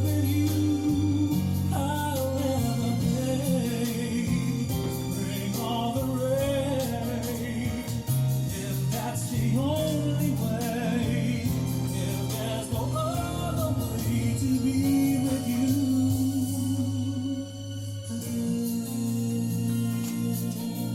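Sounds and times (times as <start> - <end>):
slow sung song: 0.0 - 20.9
sustained bass notes: 0.0 - 20.9.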